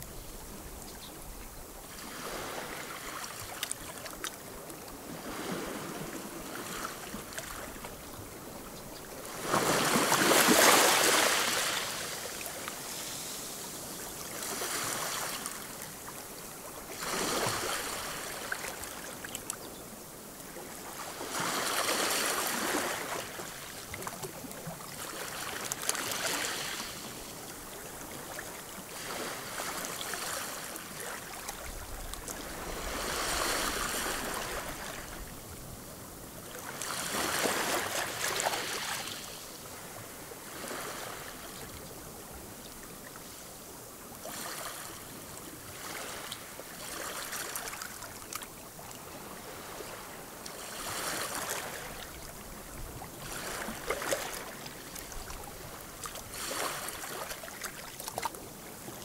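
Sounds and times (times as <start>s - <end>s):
waves lapping rocky shore: 0.0s - 59.0s.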